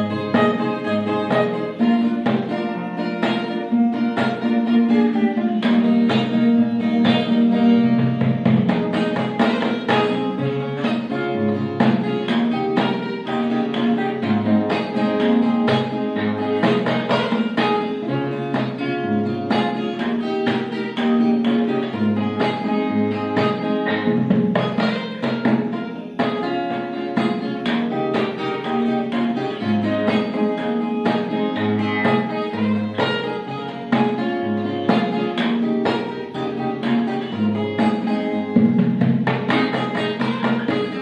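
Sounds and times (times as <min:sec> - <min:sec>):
plucked and bowed strings music: 0:00.0 - 0:41.0.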